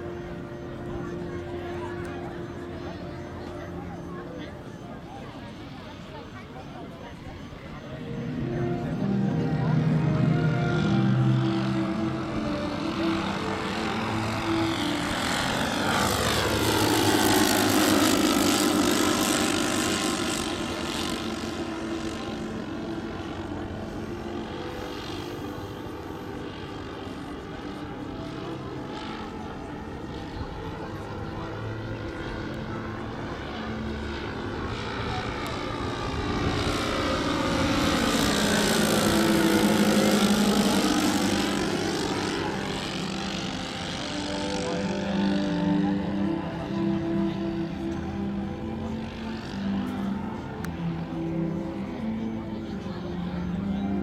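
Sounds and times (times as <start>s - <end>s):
model plane propeller engines: 0.0s - 54.0s.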